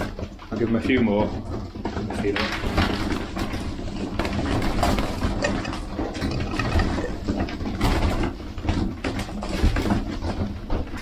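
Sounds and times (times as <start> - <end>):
pigeons flapping wings: 0.0 - 11.0.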